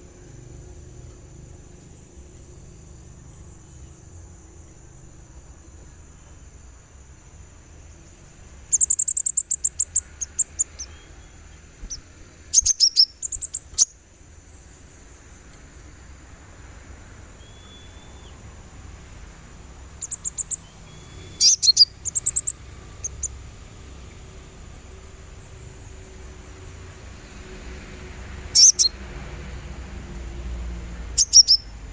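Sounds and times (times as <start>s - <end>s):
sunbird high chirps: 0.0s - 31.9s
high insect-like drone: 0.4s - 31.9s.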